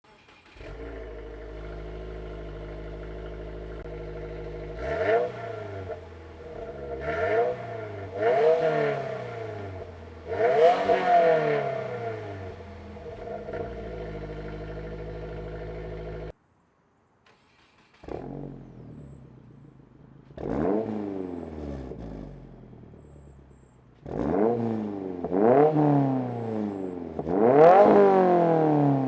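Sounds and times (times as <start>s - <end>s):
car exhaust idling and revving: 0.6s - 16.4s, 18.1s - 29.0s.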